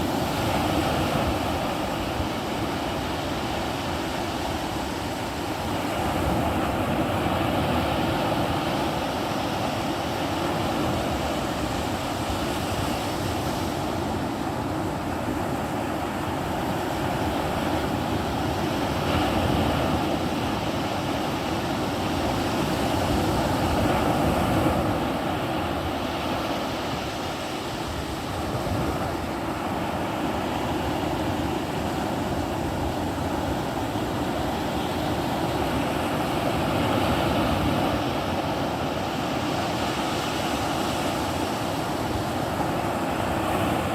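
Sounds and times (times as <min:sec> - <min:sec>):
ocean waves breaking on shore: 0:00.0 - 0:43.9
wind on microphone: 0:00.0 - 0:43.9.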